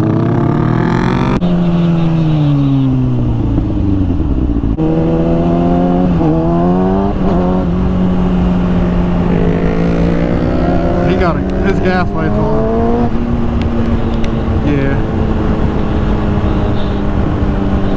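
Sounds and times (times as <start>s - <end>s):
motorcycle engine at speed: 0.0s - 17.9s.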